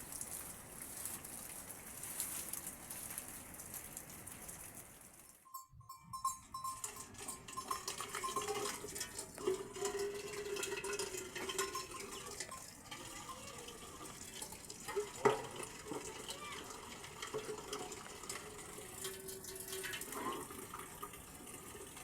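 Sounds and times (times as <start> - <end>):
water running and splashing: 0.0 - 5.5, 6.8 - 22.0
small clinks and knocks: 0.0 - 20.7.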